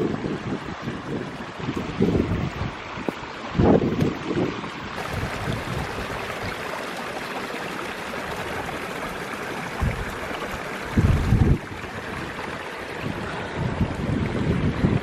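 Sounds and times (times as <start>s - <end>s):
strong wind buffeting microphone: 0.0s - 6.7s, 8.2s - 15.0s.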